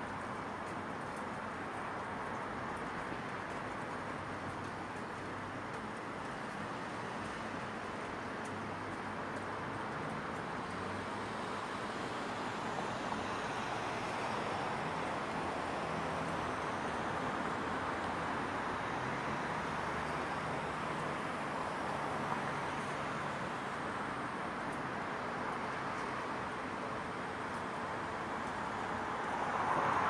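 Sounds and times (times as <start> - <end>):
distant traffic noise: 0.0 - 30.0.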